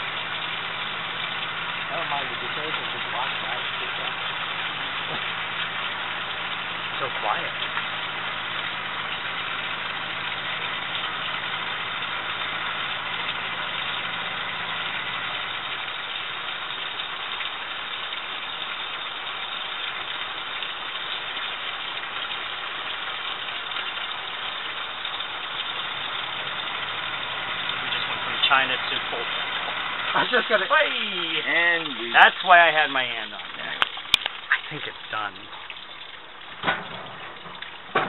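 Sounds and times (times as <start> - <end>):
dishwasher motor hum: 0.0 - 38.0
water spraying and sloshing: 0.0 - 38.0.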